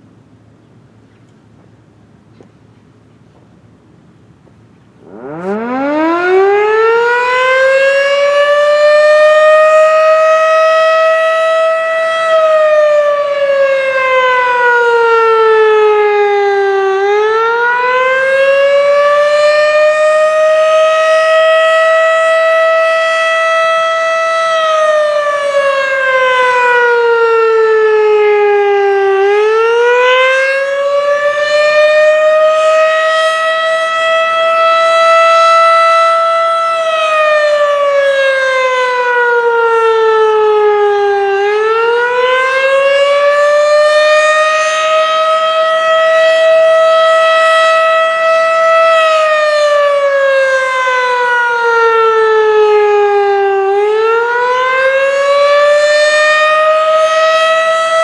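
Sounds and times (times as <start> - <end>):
tornado siren wailing: 4.9 - 58.0.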